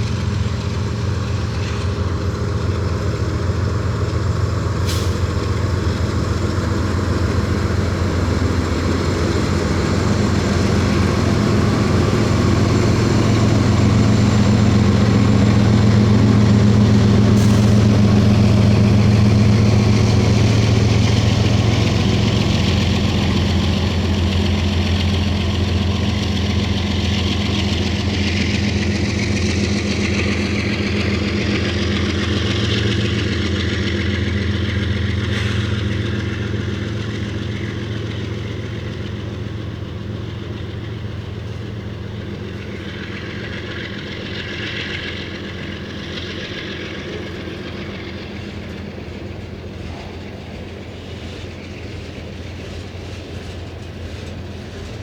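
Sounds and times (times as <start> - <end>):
diesel locomotive engines throbbing: 0.0 - 55.0.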